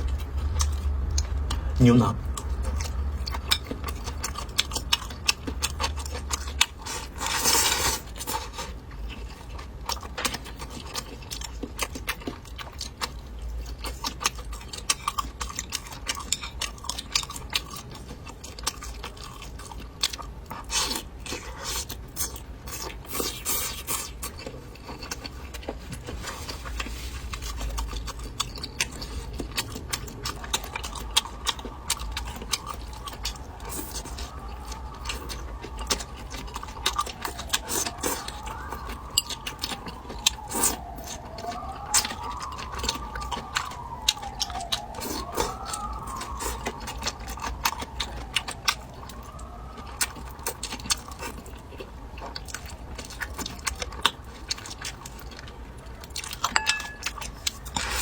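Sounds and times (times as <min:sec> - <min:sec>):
chewing with mouth clicks: 0:00.0 - 0:58.0.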